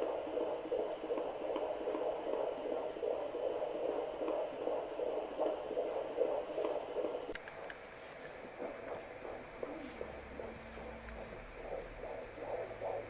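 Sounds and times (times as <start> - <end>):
fetal heartbeat on doppler: 0.0 - 13.0
steady hum: 0.0 - 13.0.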